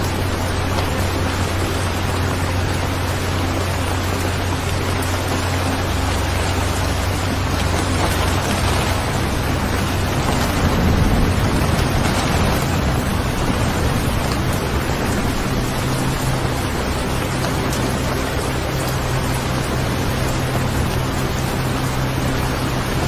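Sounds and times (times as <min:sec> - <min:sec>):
low rumble: 0:00.0 - 0:23.0
steady rain: 0:00.0 - 0:23.0.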